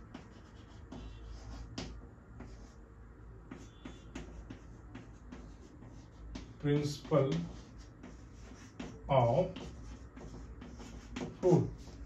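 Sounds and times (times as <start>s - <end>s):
chalk tapping and scratching: 0.0s - 12.0s.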